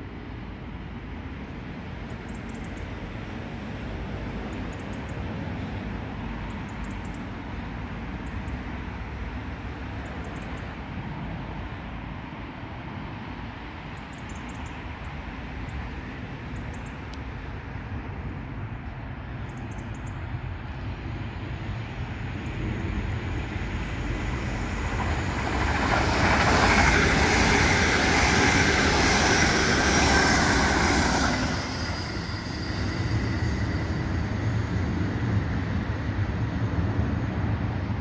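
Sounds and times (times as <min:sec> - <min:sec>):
approaching train rumble: 0:00.0 - 0:38.0.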